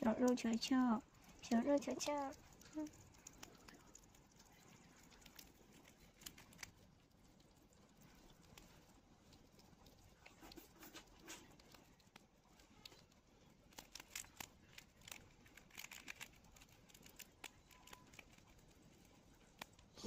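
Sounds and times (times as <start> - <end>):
animal crunching insect shell: 0.0 - 20.0.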